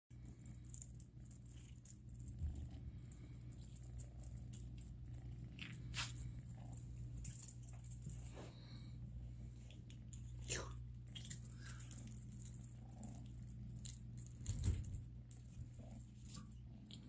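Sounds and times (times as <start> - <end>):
steady low hum: 0.1 - 17.0
cat toy rattling and crinkling: 0.2 - 8.4, 11.0 - 17.0.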